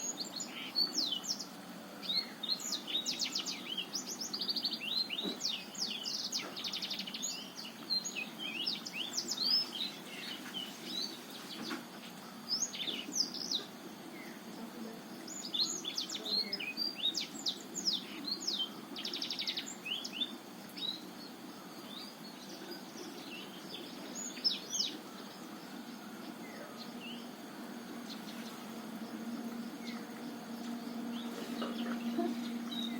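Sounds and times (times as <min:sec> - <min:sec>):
canary singing: 0:00.0 - 0:14.5, 0:15.2 - 0:32.9.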